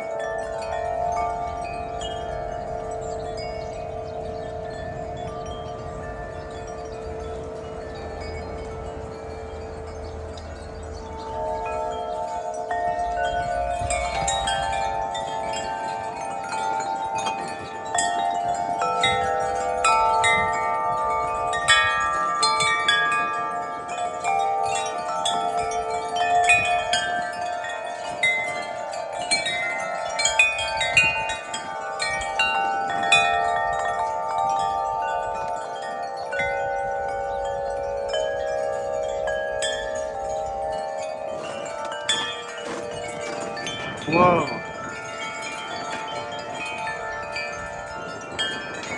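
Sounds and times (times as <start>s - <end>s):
wind chimes ringing: 0.0s - 48.9s.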